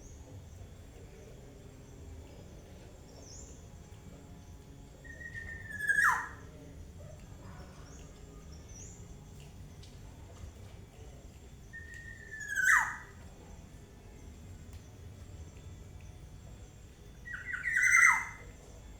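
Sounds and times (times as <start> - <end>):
faint high chirps: 1.0 - 9.9, 11.0 - 18.9.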